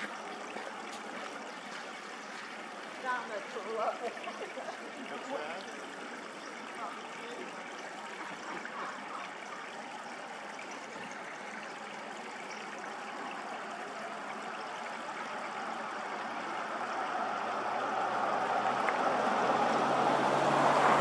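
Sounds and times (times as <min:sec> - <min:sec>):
rushing outdoor background noise: 0:00.0 - 0:21.0.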